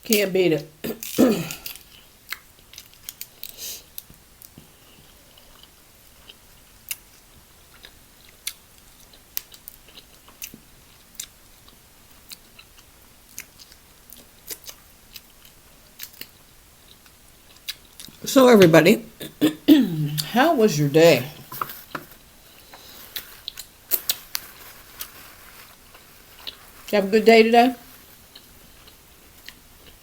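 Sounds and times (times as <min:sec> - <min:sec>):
quiet chewing: 0:00.9 - 0:18.2, 0:21.4 - 0:26.9, 0:27.8 - 0:30.0.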